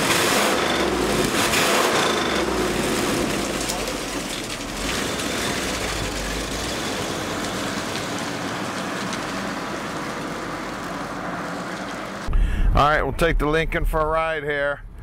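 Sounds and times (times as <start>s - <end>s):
car engine pulling away: 0.0s - 12.3s.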